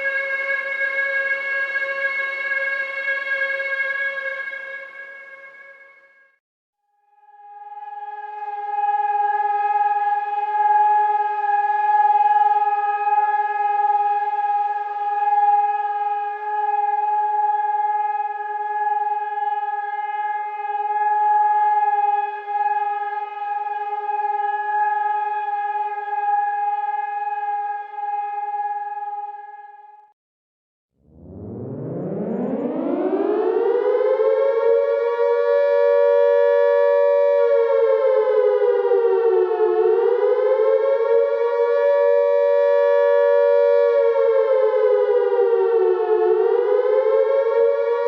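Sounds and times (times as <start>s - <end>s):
warning siren steady tone: 0.0s - 6.4s, 7.1s - 30.1s, 31.0s - 48.0s.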